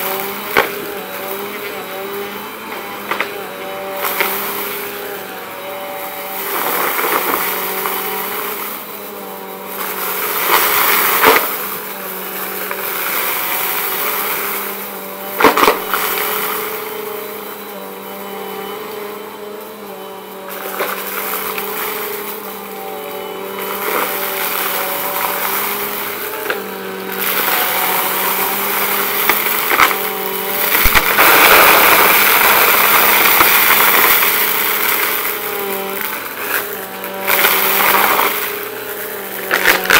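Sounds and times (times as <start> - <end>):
debris crackling through vacuum nozzle: 0.0 - 39.9
vacuum cleaner motor hum: 0.0 - 39.9.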